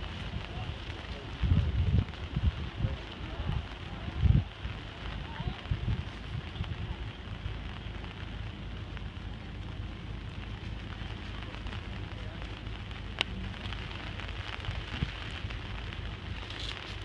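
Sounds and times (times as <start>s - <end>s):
light rain pattering: 0.0s - 17.0s.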